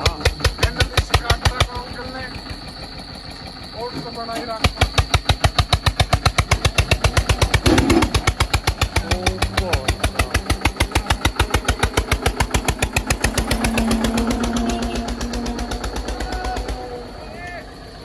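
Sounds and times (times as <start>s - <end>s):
diesel tractor engine chugging: 0.0s - 18.0s
steady engine hum: 0.0s - 18.0s.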